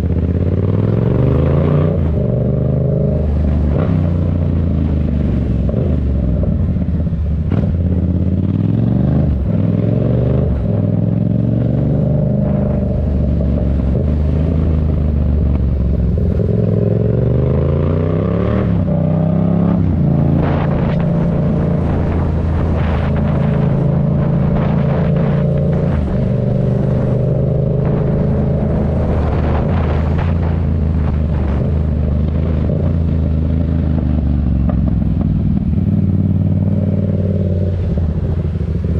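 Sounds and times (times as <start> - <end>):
motorcycle engine accelerating: 0.0 - 38.9
traffic: 0.0 - 38.9.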